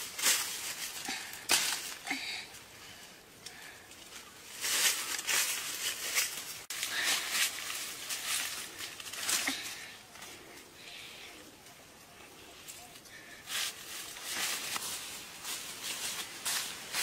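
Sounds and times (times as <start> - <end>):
leaves and branches rustling: 0.0 - 17.0.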